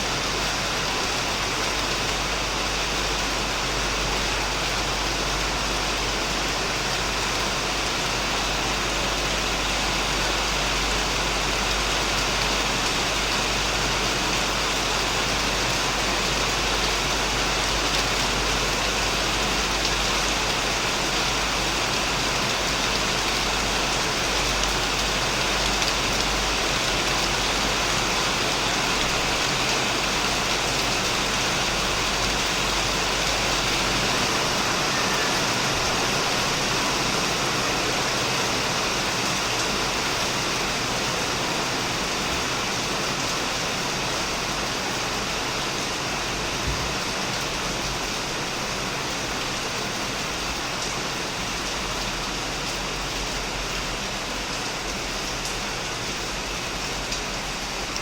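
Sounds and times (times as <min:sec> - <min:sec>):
heavy rain on a shed roof: 0:00.0 - 0:58.0.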